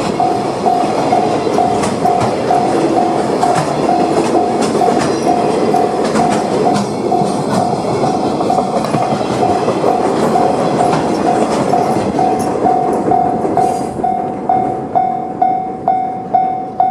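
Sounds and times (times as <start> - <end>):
train wagons clattering over rail joints: 0.0 - 14.7
crossing warning bell dinging: 0.0 - 16.9.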